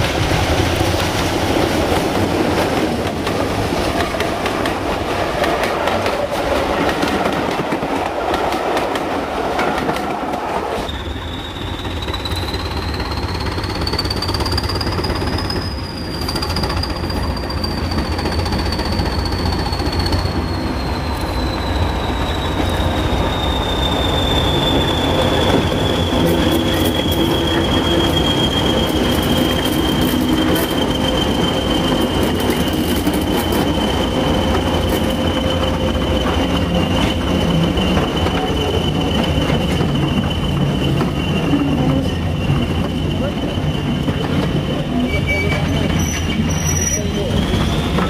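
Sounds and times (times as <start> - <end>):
train wheels rumbling on rails: 0.0 - 48.0
high wheel squeal: 9.3 - 48.0.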